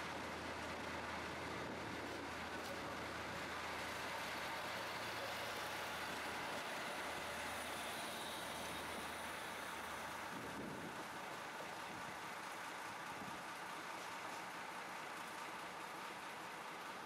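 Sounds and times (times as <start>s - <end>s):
diesel engine running: 0.0s - 17.0s
wheels rumbling on rails: 0.0s - 17.0s.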